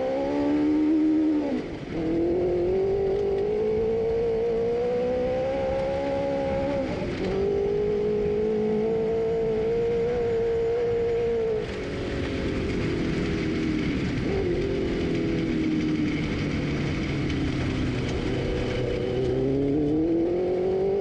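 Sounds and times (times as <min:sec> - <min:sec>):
kart engine running: 0:00.0 - 0:21.0.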